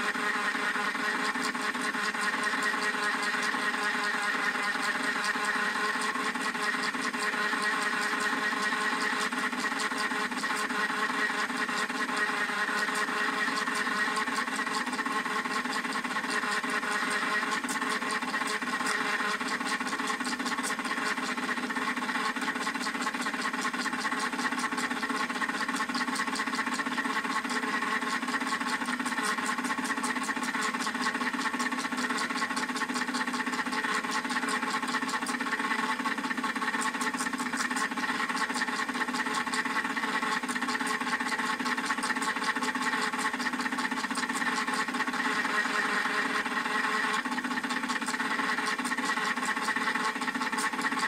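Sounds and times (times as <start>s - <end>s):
toy motor whirring: 0.0s - 51.0s.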